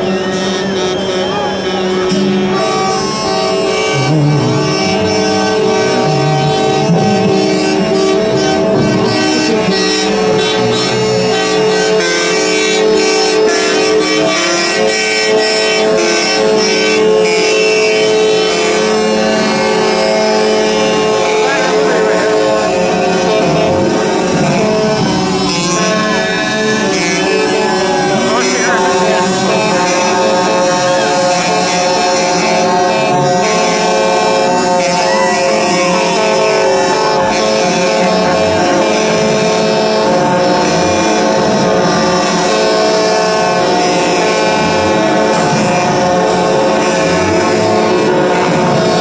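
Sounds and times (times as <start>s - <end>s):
vehicle horns blaring: 0.0s - 49.0s.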